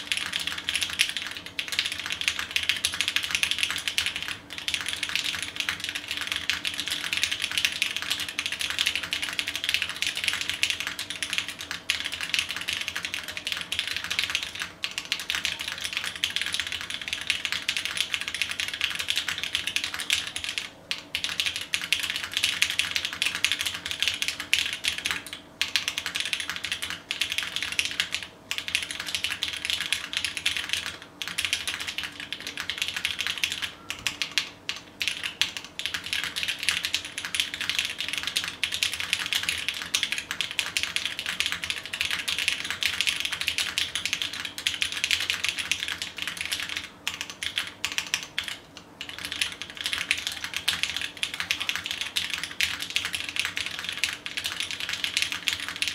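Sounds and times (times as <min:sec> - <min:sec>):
mechanical keyboard typing: 0:00.0 - 0:55.9.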